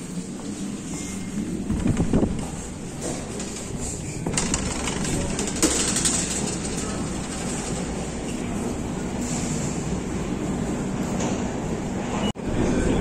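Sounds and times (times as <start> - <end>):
station hall hum and hiss: 0.0 - 13.0.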